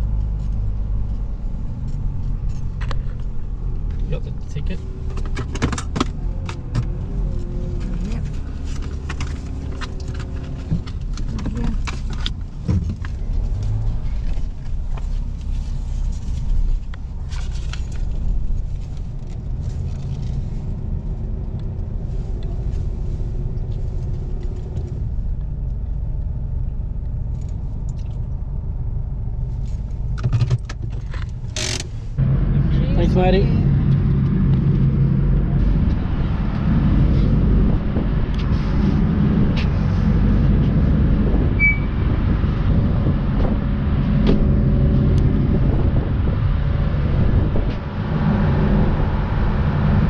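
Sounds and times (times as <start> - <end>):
vehicle engine rumble from cabin: 0.0 - 50.0.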